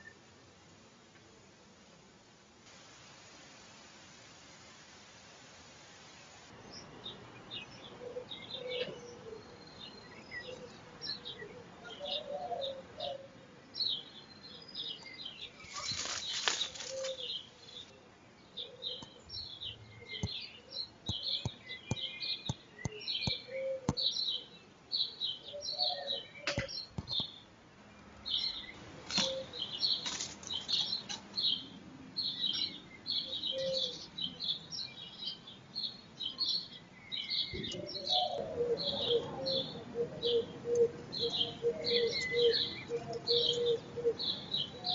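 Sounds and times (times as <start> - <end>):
small birds chirping: 6.1 - 44.9.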